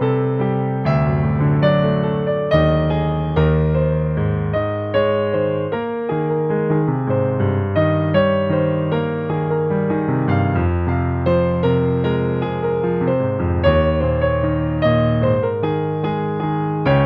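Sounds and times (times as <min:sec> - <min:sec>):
slow solo piano melody: 0:00.0 - 0:17.0.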